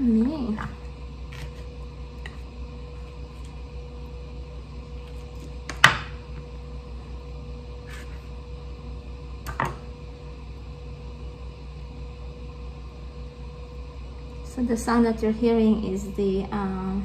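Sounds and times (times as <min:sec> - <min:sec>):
cooker humming: 0:00.0 - 0:17.0.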